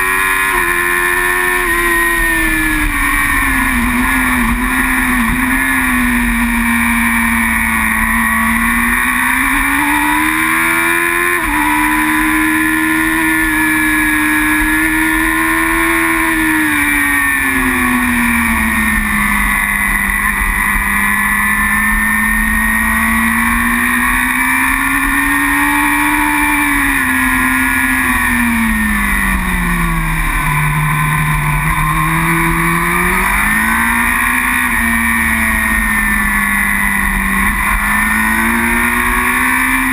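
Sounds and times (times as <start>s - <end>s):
superbike engine revving: 0.0s - 39.9s.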